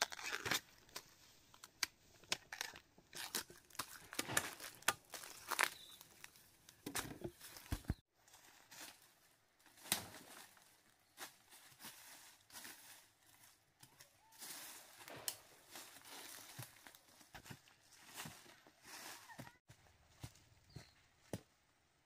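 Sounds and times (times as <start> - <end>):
dry plants rustling and crackling: 0.0 - 21.4.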